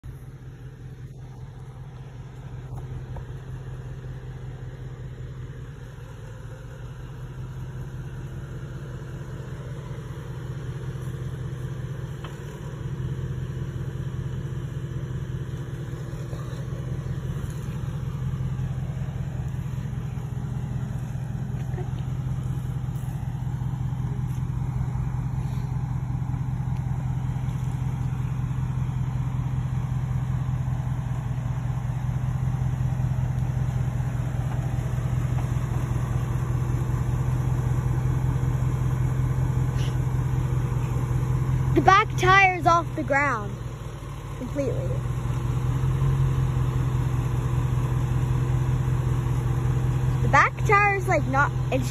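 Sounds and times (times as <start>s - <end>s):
pickup truck engine crawling: 0.0s - 51.9s.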